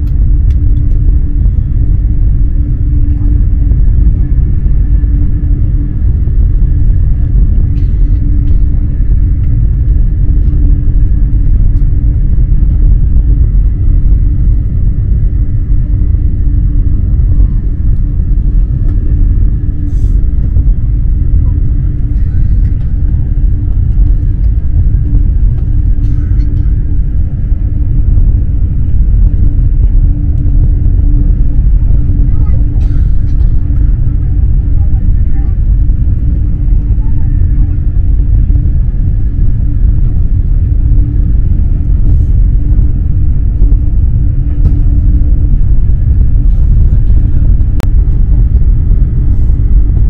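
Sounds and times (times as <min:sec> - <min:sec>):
constant hum: 0:00.0 - 0:50.0
train rumble inside carriage: 0:00.0 - 0:50.0.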